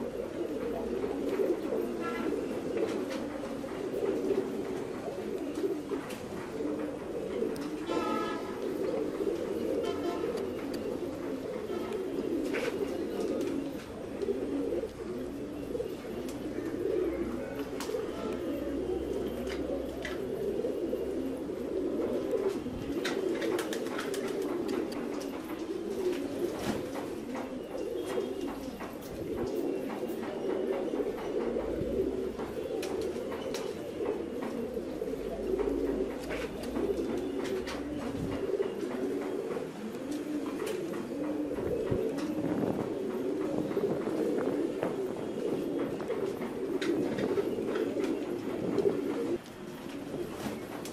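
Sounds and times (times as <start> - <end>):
pigeons cooing: 0.0 - 50.9.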